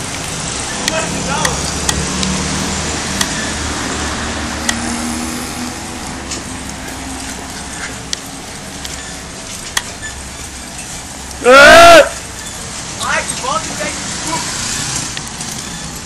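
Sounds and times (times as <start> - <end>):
bicycle tyres rolling: 0.0 - 16.0
street traffic: 0.0 - 16.0.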